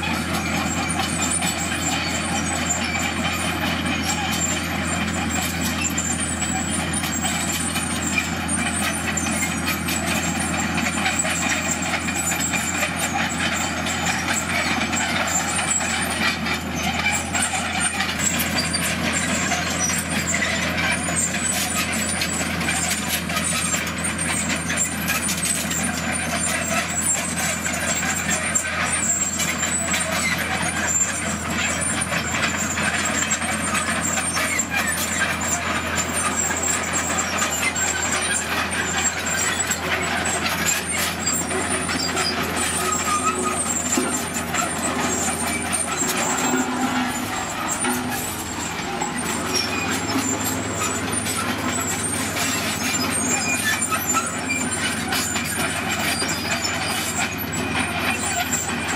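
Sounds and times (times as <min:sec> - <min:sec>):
bulldozer diesel engine: 0:00.0 - 0:58.9
steel tracks and stone clattering: 0:00.1 - 0:58.9.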